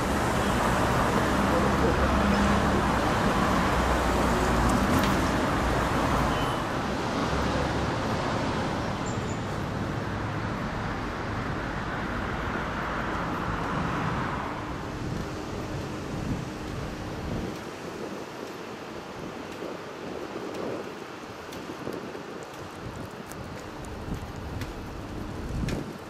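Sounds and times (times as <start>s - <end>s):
cars passing: 0.0s - 26.0s
traffic hum and hiss: 0.0s - 26.0s.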